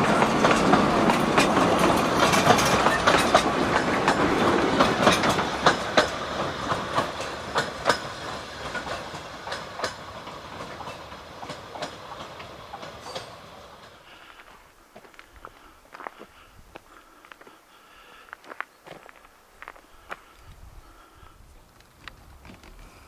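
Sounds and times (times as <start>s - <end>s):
train wheels clicking over rail joints: 0.0s - 16.4s, 17.0s - 23.0s.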